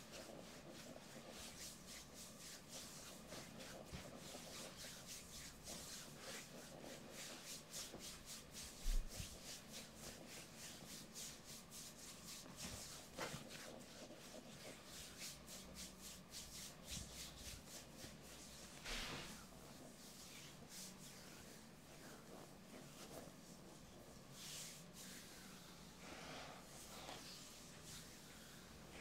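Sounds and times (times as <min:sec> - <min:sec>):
hands rubbing skin: 0:00.0 - 0:29.0.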